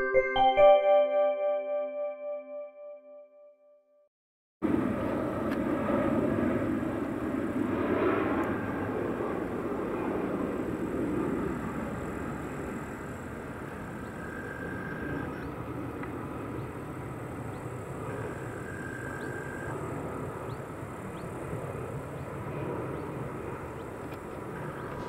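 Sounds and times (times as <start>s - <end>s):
jet airliner flying over: 4.6s - 25.0s.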